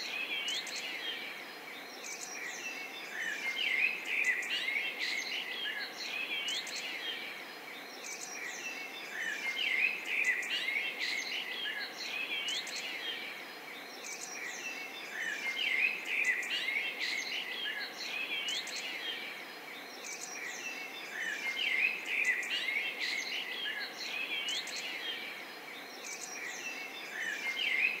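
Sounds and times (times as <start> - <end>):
small birds chirping and twittering: 0.0 - 28.0.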